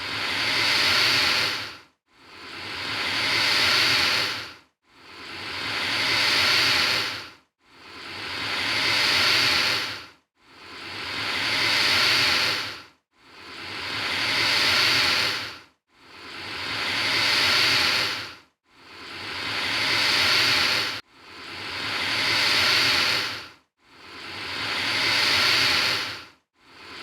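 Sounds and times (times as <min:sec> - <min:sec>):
alligator hissing: 0:00.1 - 0:04.5, 0:05.1 - 0:07.2, 0:07.9 - 0:10.0, 0:10.7 - 0:12.8, 0:13.4 - 0:15.6, 0:16.2 - 0:23.5, 0:24.1 - 0:27.0.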